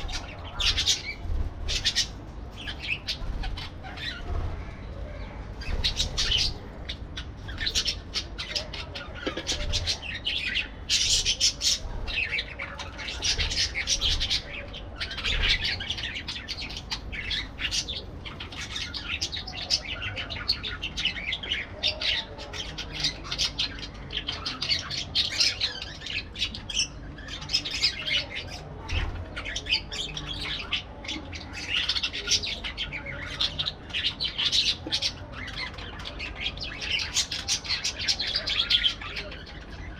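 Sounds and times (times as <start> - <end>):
parakeets chirping and squawking: 0.0 - 39.9.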